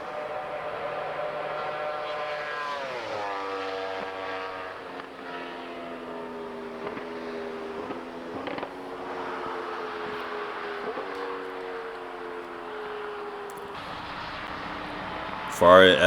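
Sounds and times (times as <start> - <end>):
high-revving engine passing by: 0.0 - 15.6.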